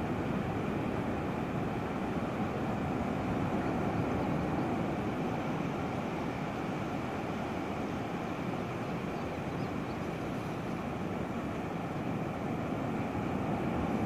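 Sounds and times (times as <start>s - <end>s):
ocean surf rushing: 0.0s - 14.0s.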